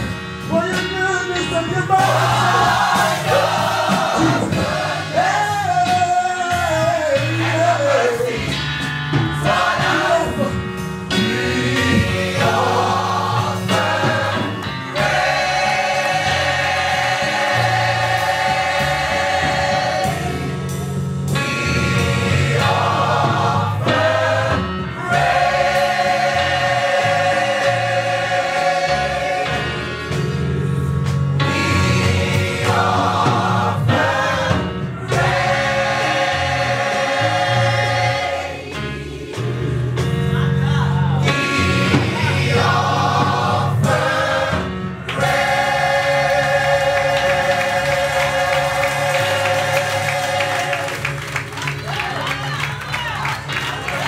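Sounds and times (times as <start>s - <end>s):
gospel choir singing: 0.0s - 0.5s, 1.2s - 52.6s
instrumental accompaniment: 0.0s - 54.0s.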